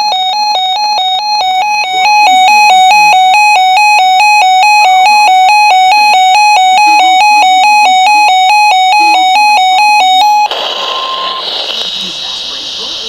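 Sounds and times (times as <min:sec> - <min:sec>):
two-pitch warbling alarm tone: 0:00.0 - 0:11.5.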